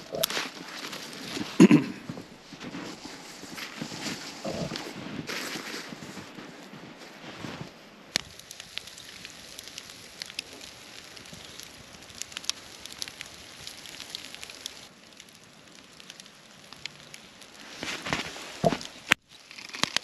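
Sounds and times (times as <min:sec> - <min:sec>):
campfire crackling and popping: 0:00.0 - 0:20.0
steady fire hiss: 0:00.0 - 0:20.0.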